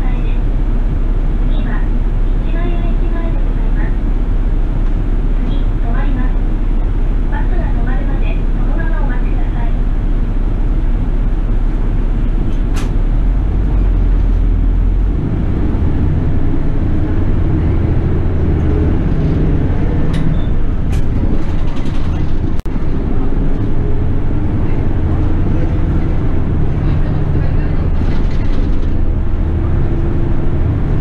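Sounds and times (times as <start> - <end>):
bus diesel engine: 0.0 - 31.0.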